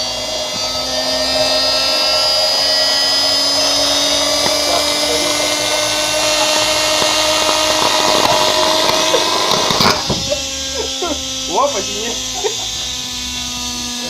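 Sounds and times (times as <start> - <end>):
washing machine motor whine: 0.0 - 14.0.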